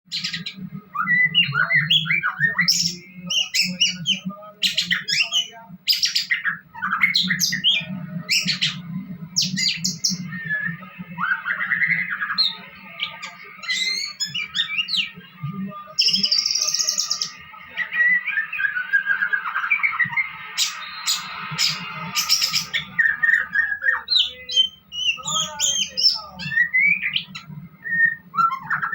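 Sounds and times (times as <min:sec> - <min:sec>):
songbird singing: 0:00.1 - 0:28.9
low steady hum: 0:00.2 - 0:28.9.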